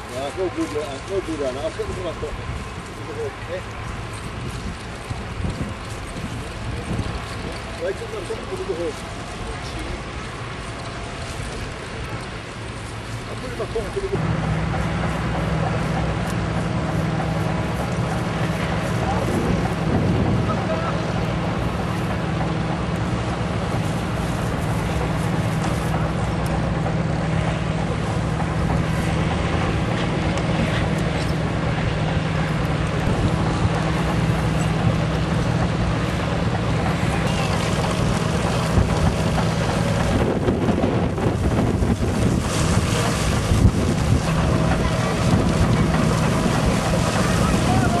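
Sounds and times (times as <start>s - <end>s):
wind buffeting microphone: 0.0s - 13.3s, 14.2s - 48.0s
engine hum: 0.0s - 48.0s.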